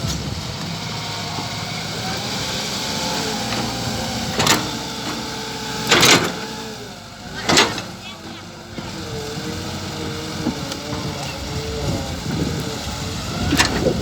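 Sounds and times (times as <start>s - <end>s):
model excavator mechanical whine: 0.0s - 14.0s.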